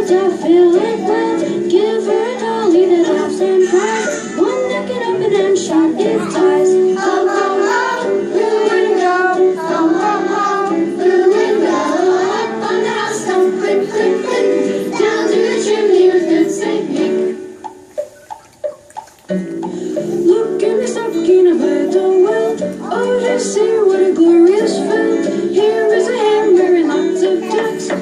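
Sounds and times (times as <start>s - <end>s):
children singing: 0.0s - 17.4s, 20.0s - 28.0s
instrumental accompaniment: 0.0s - 28.0s.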